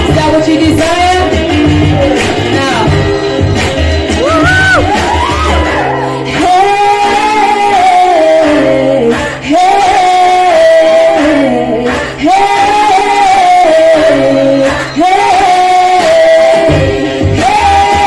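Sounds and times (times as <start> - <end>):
girls singing: 0.0 - 18.0
musical accompaniment with bass: 0.0 - 18.0.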